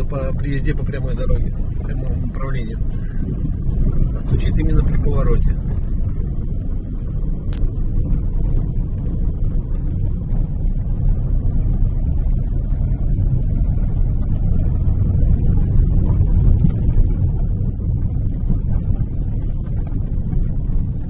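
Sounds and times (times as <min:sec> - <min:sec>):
road and engine rumble: 0:00.0 - 0:21.0.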